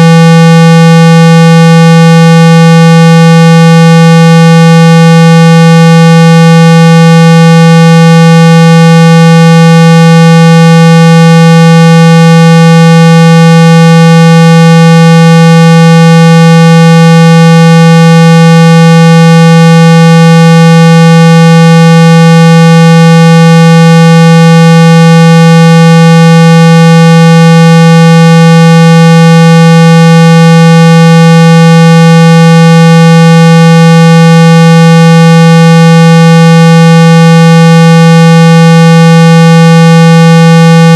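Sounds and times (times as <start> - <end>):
loud buzzy steady tone: 0.0 - 40.9.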